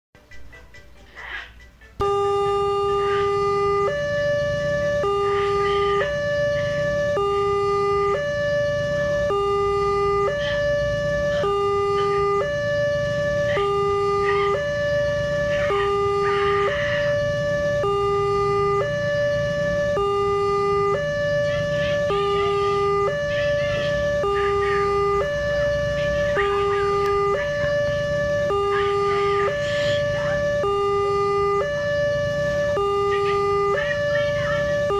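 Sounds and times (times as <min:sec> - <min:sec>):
electronic two-tone siren: 0:02.0 - 0:34.9.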